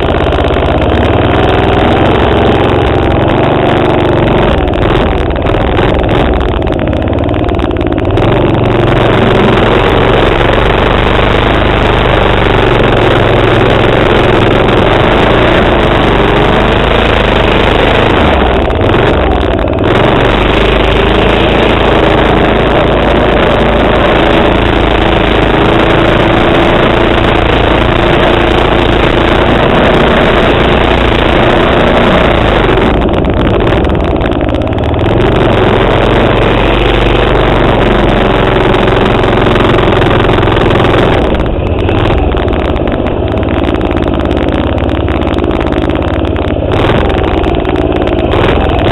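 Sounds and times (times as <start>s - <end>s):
minibike engine running: 0.0s - 48.9s.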